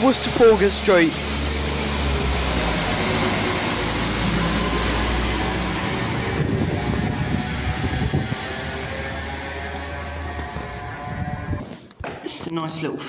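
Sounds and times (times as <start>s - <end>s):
diesel train pulling away: 0.0s - 11.8s.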